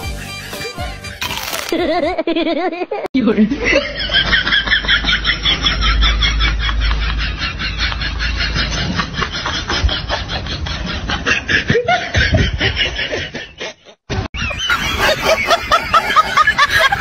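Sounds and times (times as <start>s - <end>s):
person laughing: 1.3s - 17.0s.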